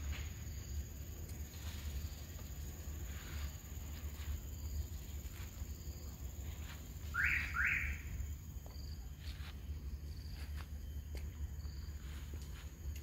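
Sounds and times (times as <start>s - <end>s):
high insect tone: 0.0s - 13.0s.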